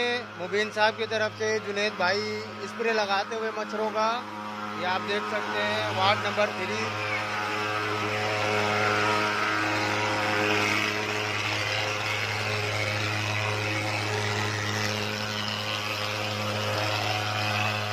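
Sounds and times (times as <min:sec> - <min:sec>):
fogging machine buzzing drone: 0:00.0 - 0:17.9.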